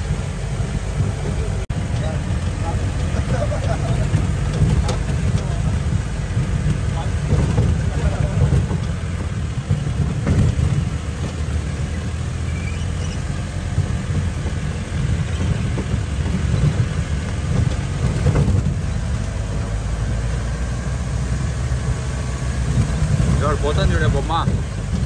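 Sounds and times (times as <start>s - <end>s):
engine rumble inside vehicle: 0.0s - 25.0s.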